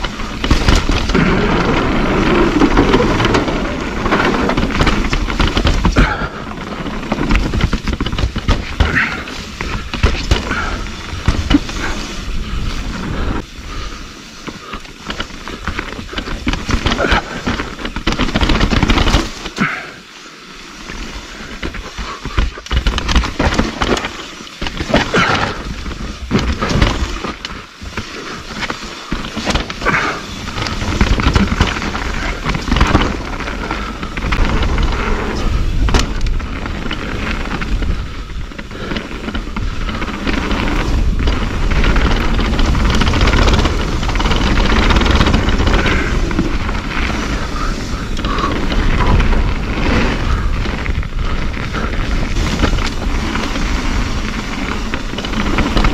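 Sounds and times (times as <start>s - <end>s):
wind rumble on microphone: 0.0s - 20.1s, 20.8s - 55.9s
bike knocking and rattling: 0.0s - 55.9s
tyre noise on dirt: 0.0s - 55.9s.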